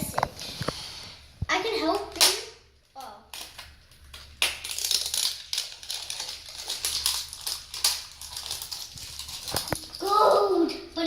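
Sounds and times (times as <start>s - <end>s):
wrapping crinkling and tearing: 1.9s - 10.9s.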